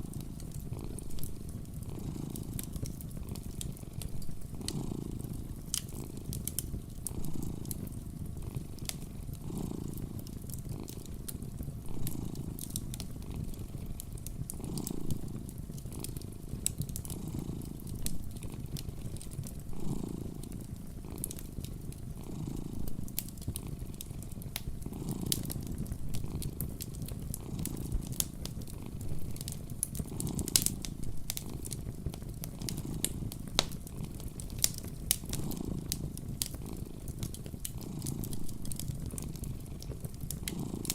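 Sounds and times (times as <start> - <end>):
cat purring: 0.0 - 40.9
fireplace fire crackling: 0.0 - 40.9.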